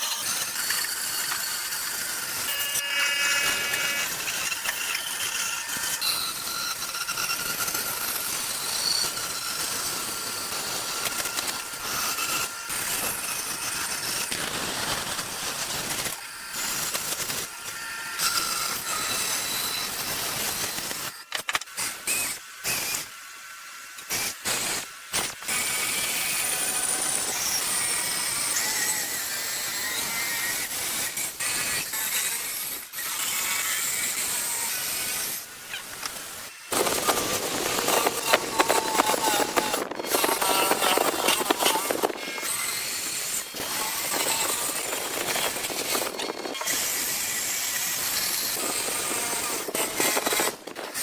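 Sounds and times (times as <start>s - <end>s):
woodworking machine hissing: 0.0s - 51.0s.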